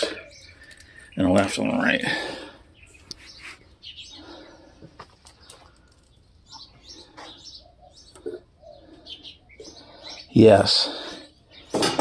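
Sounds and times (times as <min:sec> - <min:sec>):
faint bird chirps and coos: 0:00.0 - 0:12.0.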